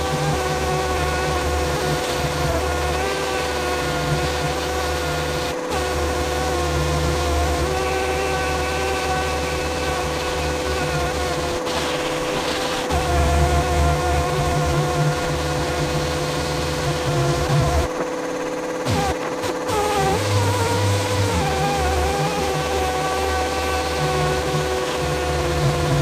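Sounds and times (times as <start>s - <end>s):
power tool motor buzzing: 0.0s - 26.0s.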